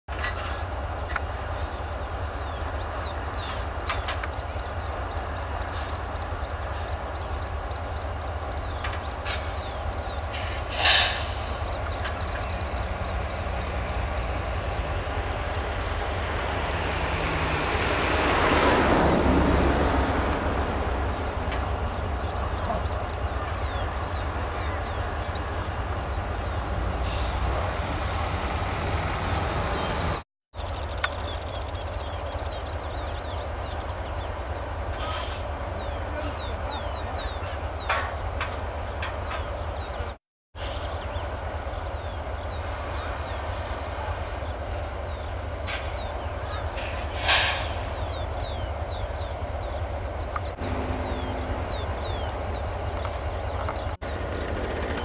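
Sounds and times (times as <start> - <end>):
freight train rumbling: 0.2 - 30.2, 31.5 - 55.0.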